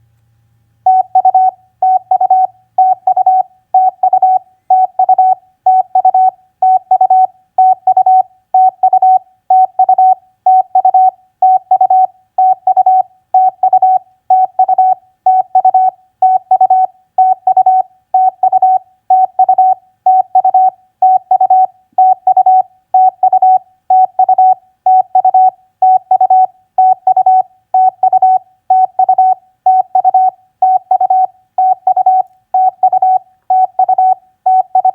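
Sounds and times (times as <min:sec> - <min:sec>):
morse code beeps: 0:00.9 - 0:34.9.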